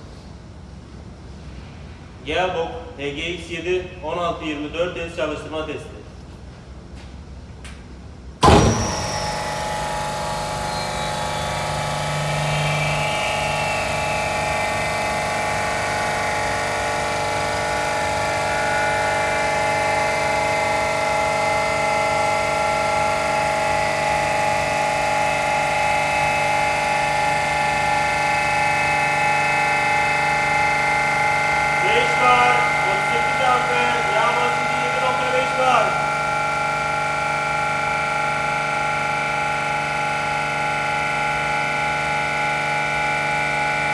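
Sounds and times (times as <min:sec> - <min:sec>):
compressor humming with tones: 0:00.0 - 0:43.9
compressor starting jolt: 0:08.4 - 0:43.9.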